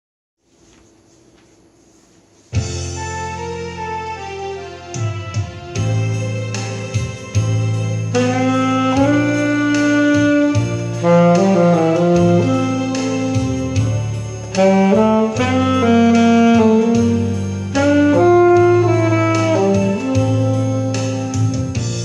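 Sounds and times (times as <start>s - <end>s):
low accompaniment: 2.5s - 22.0s
saxophone slow melody: 2.6s - 22.0s.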